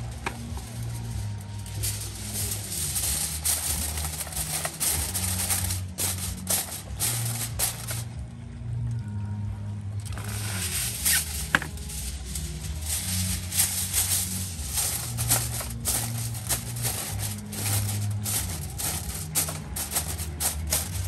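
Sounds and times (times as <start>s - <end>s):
aluminium foil crinkling: 0.0s - 8.0s, 10.1s - 21.0s
background music with bass: 0.0s - 21.0s.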